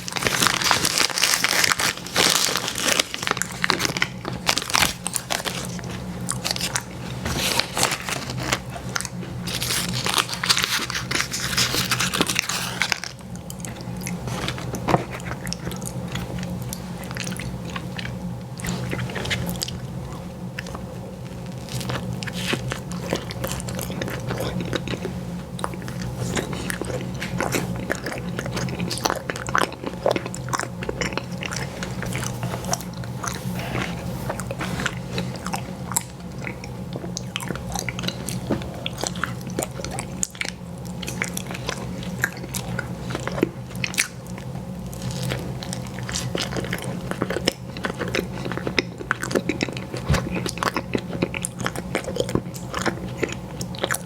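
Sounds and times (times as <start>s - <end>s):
biting and chewing ice cream: 0.0s - 54.0s
steady low hum: 0.0s - 54.0s.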